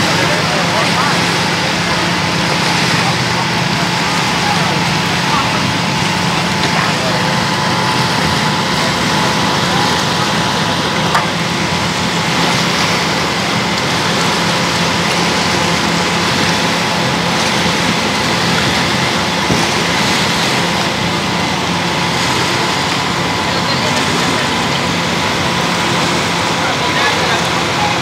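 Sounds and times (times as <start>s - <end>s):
engines running: 0.0s - 28.0s.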